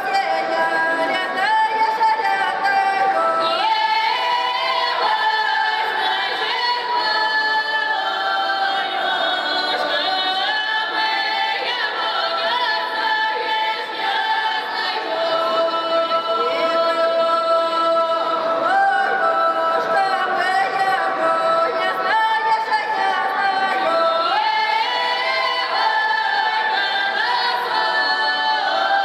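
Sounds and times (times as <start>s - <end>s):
women singing a cappella: 0.0s - 29.0s.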